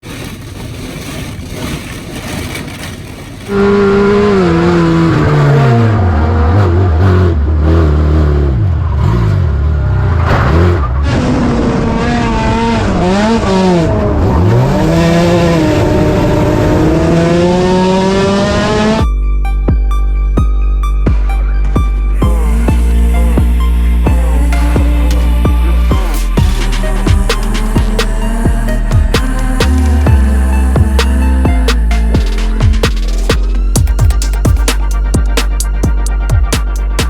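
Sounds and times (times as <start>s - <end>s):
race car engine revving: 0.0s - 19.1s, 22.1s - 37.0s.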